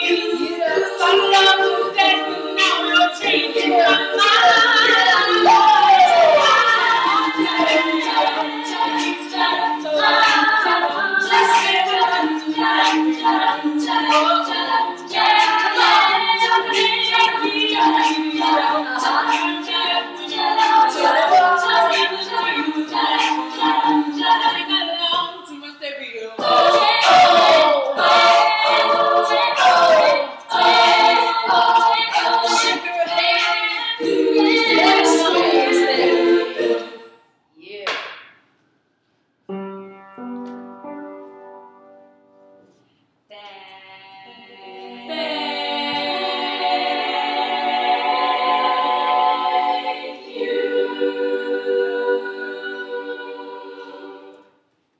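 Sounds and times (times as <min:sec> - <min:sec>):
women singing a cappella: 0:00.0 - 0:37.8, 0:43.3 - 0:54.6.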